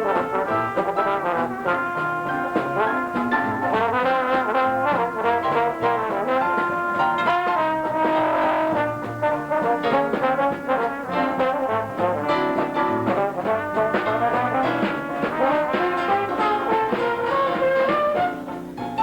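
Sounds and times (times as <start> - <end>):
jazz band playing: 0.0 - 19.0
trombone and trumpet lead: 0.0 - 19.0.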